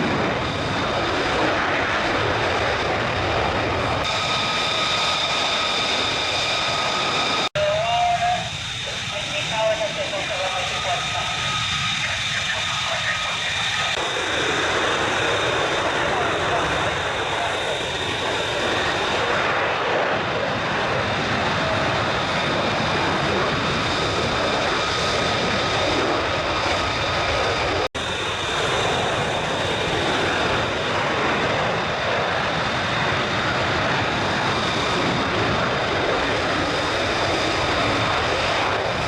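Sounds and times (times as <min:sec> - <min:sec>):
high steady whine: 0:00.0 - 0:34.2
jet engine roaring: 0:00.0 - 0:39.0.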